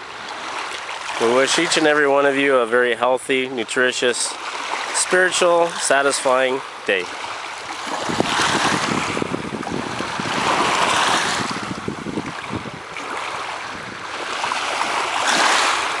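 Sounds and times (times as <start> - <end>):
waves washing over pebbles: 0.0 - 16.0.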